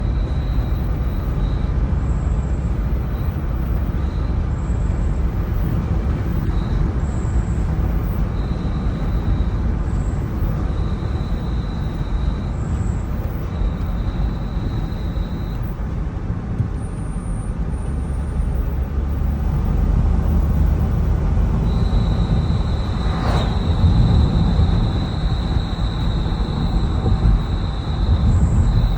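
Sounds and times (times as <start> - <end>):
brakes squealing: 0.0 - 28.9
road and engine noise: 0.0 - 28.9.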